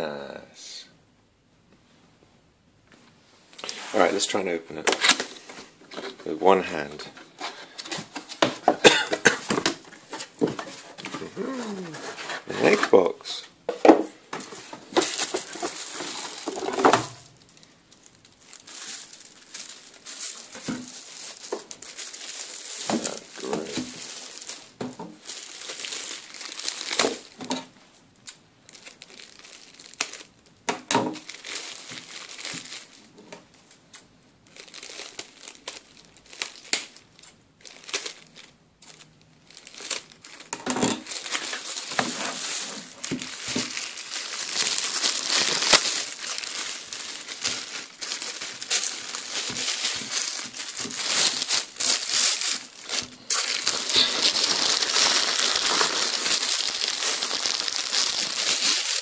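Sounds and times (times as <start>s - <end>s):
plastic bag crinkling: 3.6s - 13.1s, 14.3s - 59.0s.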